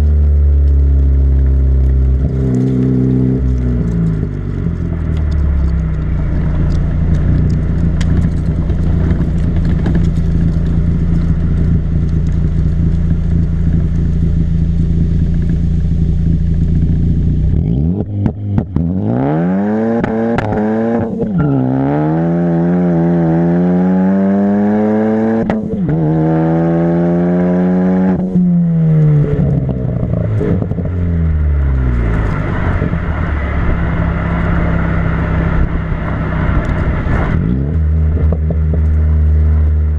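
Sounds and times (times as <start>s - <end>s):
car exhaust drone: 0.0s - 39.9s
engine revving with upshifts: 0.0s - 39.9s
exhaust crackles: 0.0s - 39.9s.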